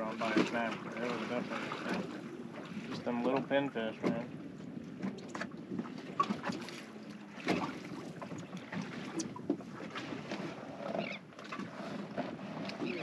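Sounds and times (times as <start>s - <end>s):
water slapping boat hull: 0.0s - 13.0s.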